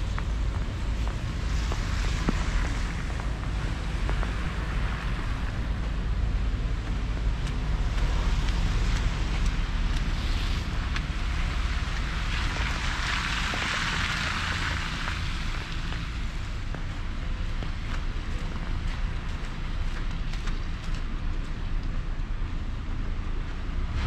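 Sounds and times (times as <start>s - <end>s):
passing traffic: 0.0s - 24.0s
wind rumble on microphone: 0.0s - 24.0s.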